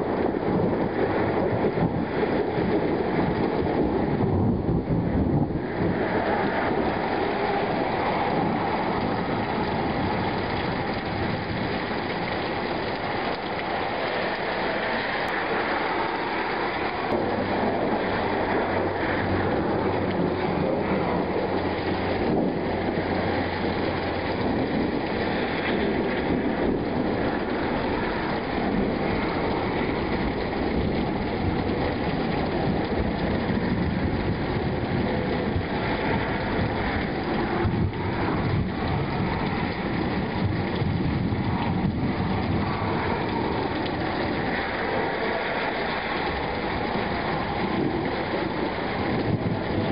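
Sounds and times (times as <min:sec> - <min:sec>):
rain falling: 0:00.0 - 0:49.9
thunder rumbling: 0:00.0 - 0:49.9.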